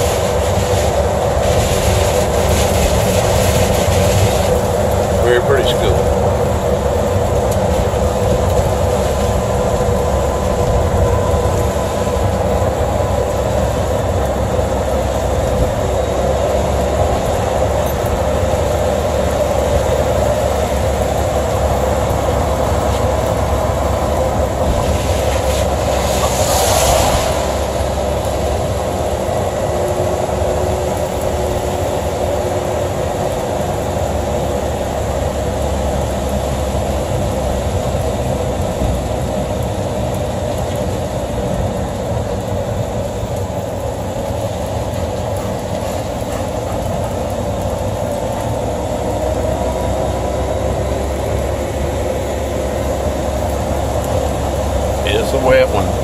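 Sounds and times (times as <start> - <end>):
vehicle engine and tyre rumble: 0.0 - 56.0
wet road hiss: 0.0 - 56.0.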